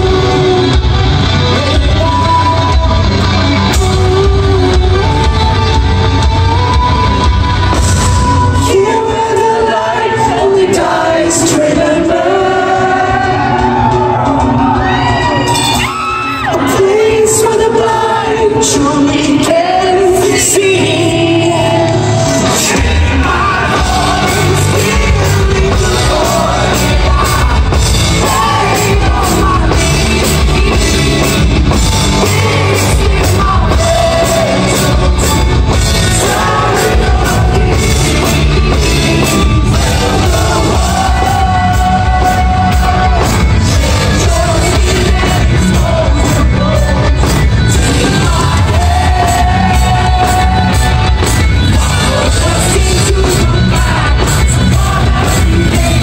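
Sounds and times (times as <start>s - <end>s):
distorted electric guitars: 0.0s - 56.0s
person singing: 0.0s - 56.0s
rock band playing live: 0.0s - 56.0s.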